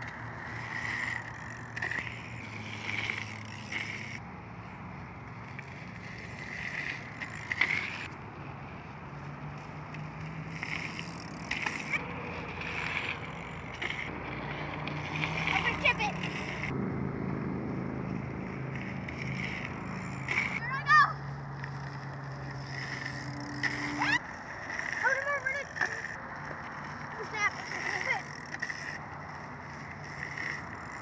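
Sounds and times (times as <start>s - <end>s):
bike rattling: 0.0s - 31.0s
bike tyres rolling over dirt: 0.0s - 31.0s.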